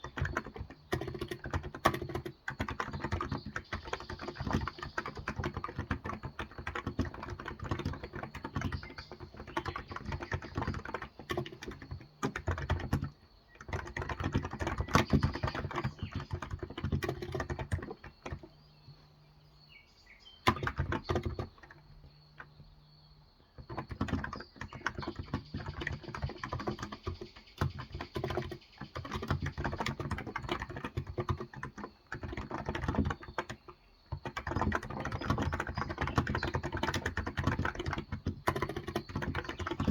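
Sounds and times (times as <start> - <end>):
soft keyboard keystrokes: 0.0 - 19.0, 20.4 - 22.7, 23.6 - 39.9.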